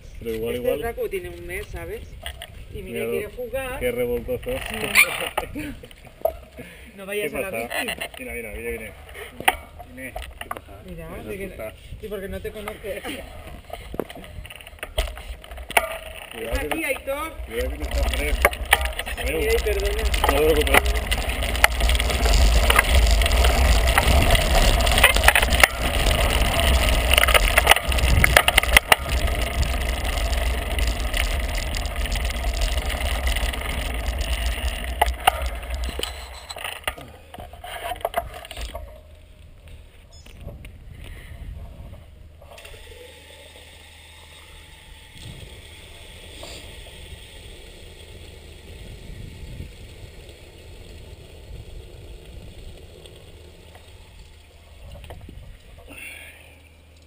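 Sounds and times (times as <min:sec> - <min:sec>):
bicycle rattling over stone paving: 0:00.0 - 0:57.0
quiet street background: 0:00.0 - 0:57.0.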